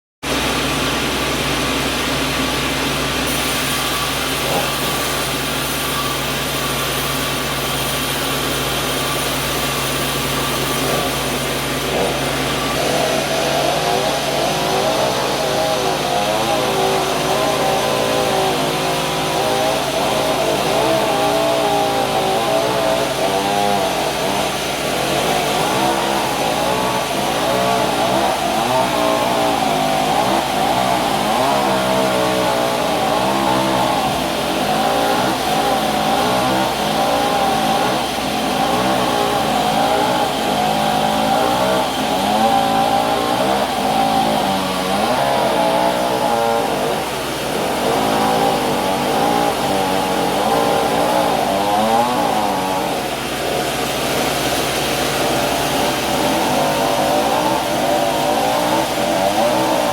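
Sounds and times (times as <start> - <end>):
sawmill machinery din: 0.3 - 59.9
wavering whine: 0.5 - 59.9.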